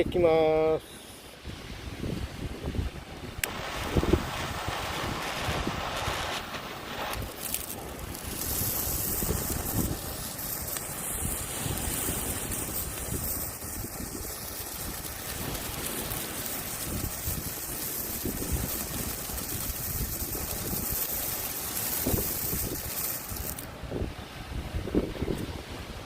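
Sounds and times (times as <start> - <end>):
firework sparks hissing: 0.0 - 1.5, 2.3 - 23.8
wind buffeting microphone: 1.4 - 26.0.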